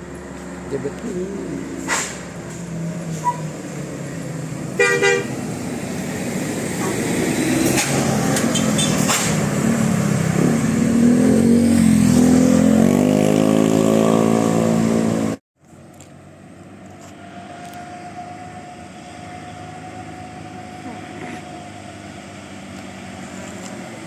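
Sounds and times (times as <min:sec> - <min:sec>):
bus engine accelerating: 0:00.0 - 0:24.0.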